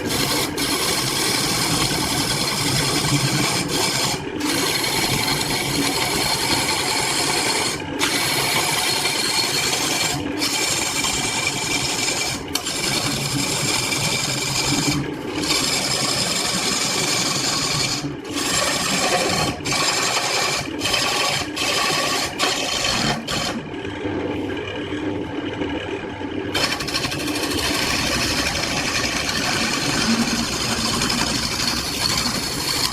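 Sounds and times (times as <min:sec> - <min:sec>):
power tool grinding wood: 0:00.0 - 0:23.6, 0:26.5 - 0:32.9.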